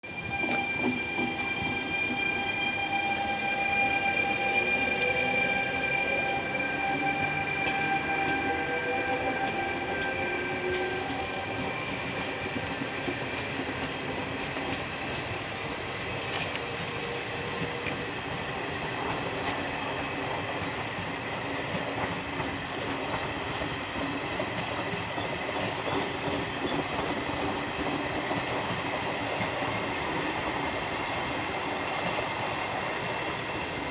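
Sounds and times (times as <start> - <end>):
electric locomotive whine: 0.0 - 33.9
train rumbling on track: 0.0 - 33.9.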